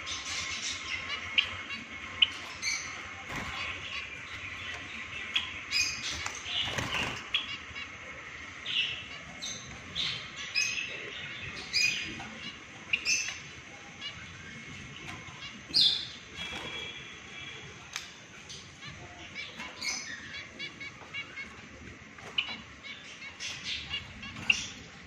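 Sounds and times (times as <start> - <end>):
finches chirping: 0.0 - 25.0.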